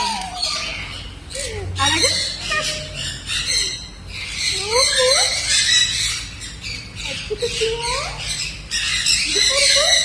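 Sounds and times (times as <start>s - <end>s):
pet birds chattering: 0.0s - 10.0s
rising and falling bird calls: 0.0s - 10.0s.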